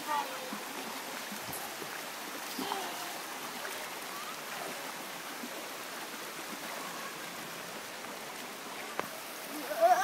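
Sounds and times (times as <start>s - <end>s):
stream rushing over stones: 0.0s - 10.0s.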